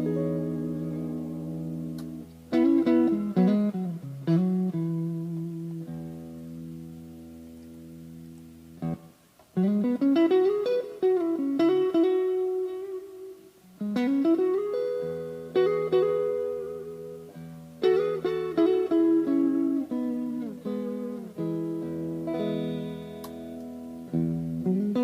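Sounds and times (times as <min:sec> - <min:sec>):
electric guitar playing: 0:00.0 - 0:25.0.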